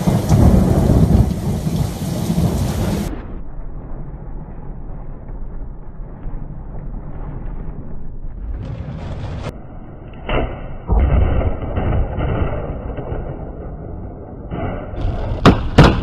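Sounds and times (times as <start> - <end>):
deep thunderclap: 0.0 - 9.6, 10.3 - 16.0
lightning crack: 0.0 - 9.6, 10.2 - 16.0
low rumbling noise: 0.0 - 16.0.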